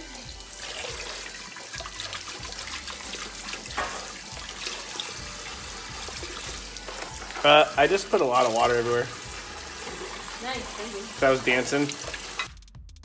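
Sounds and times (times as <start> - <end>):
water running from faucet: 0.0 - 12.6.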